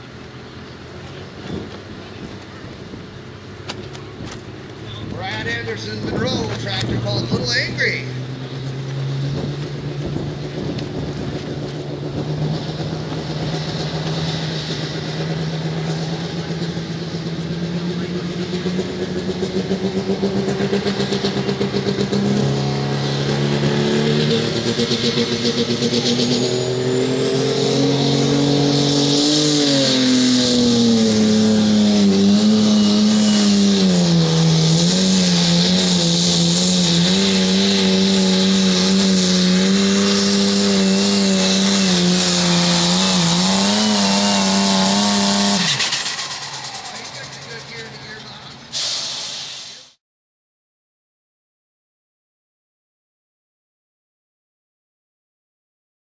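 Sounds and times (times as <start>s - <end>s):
diesel engine under full load: 0.0s - 50.0s.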